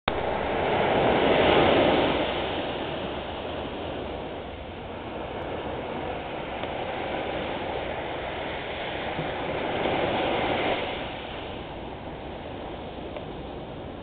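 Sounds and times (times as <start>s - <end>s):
small waves washing up a beach: 0.1s - 14.0s.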